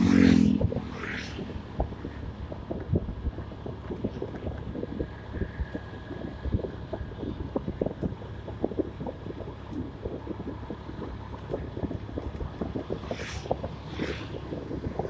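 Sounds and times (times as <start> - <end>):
vehicles passing whoosh: 0.0 - 9.5, 10.2 - 15.0
wind buffeting microphone: 0.0 - 15.0.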